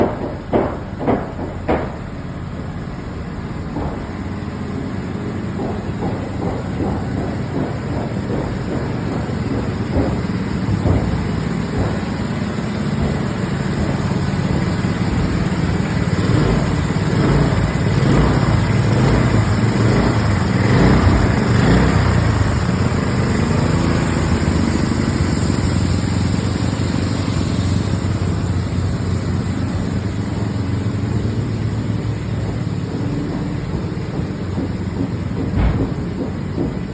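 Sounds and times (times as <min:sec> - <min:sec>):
engine running steadily: 0:00.0 - 0:36.9
knocks and rattles: 0:00.0 - 0:36.9.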